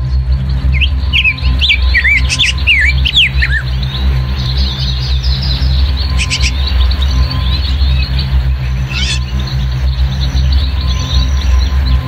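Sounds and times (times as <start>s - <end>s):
birds chirping: 0.0s - 12.0s
low-pitched background music: 0.0s - 12.0s.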